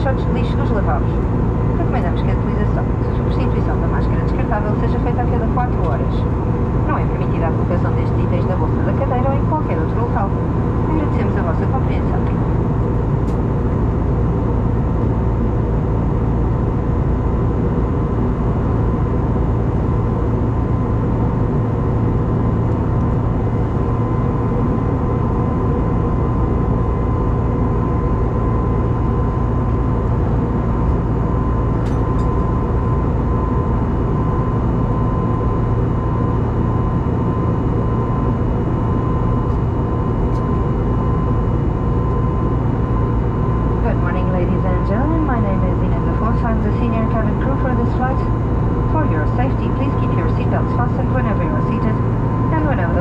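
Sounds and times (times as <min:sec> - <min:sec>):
airplane cabin engine and airflow rush: 0:00.0 - 0:53.0
faint steady hum: 0:00.0 - 0:53.0.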